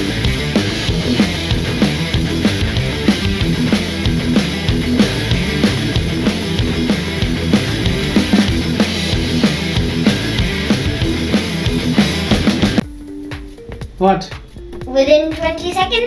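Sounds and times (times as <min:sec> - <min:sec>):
rock music with drum beat: 0:00.0 - 0:16.0.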